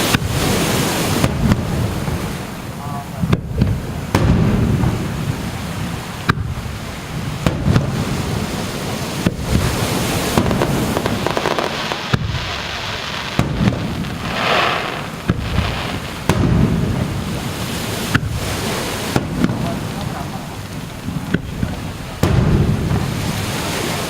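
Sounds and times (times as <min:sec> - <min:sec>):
fireworks bangs: 0:00.0 - 0:24.0
fireworks hissing and crackling: 0:00.0 - 0:24.0.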